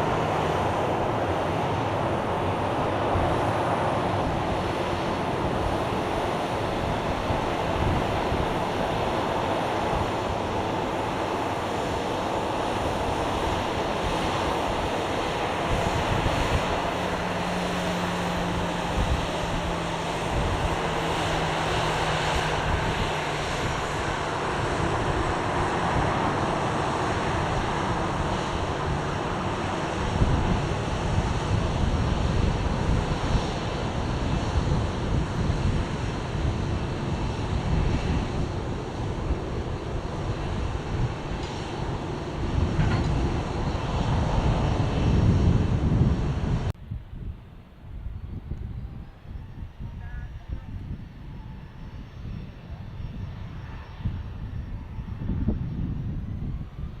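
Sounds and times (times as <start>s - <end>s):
jet engine rumble and whine: 0.0s - 57.0s
wind on microphone: 0.0s - 57.0s.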